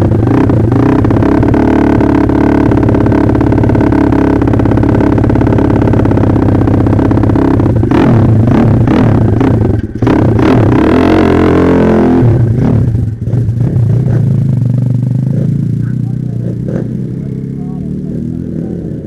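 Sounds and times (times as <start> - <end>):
pit bike engine revving: 0.0 - 19.0.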